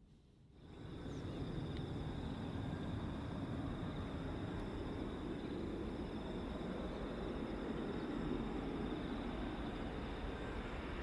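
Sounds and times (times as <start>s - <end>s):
jet engines rushing: 0.7s - 11.0s.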